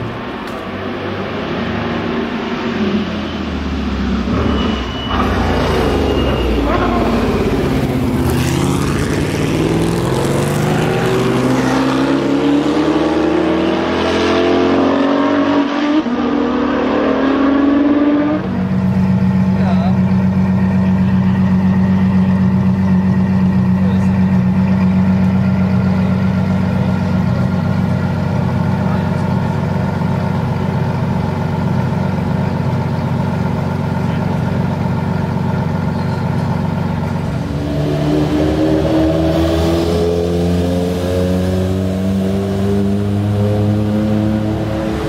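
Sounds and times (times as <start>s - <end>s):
car engine idling and pulling away: 0.0s - 45.0s.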